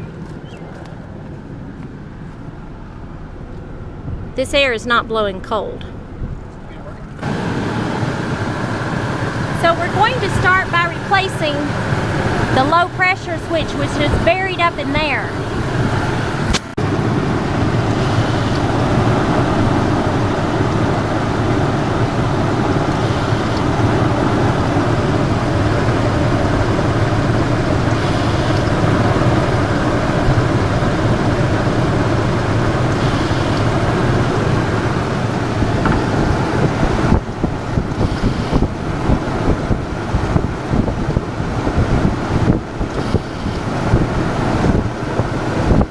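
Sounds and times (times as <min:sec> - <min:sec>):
truck engine running: 0:00.0 - 0:45.9
wind buffeting microphone: 0:00.0 - 0:45.9.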